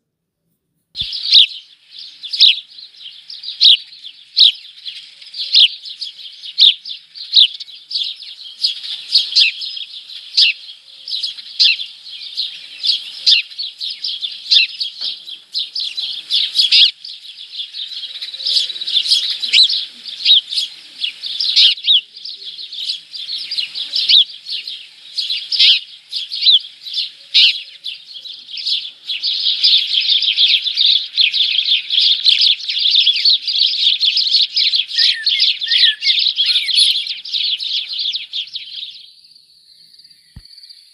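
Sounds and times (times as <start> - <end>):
small birds chirping: 1.0 - 40.9.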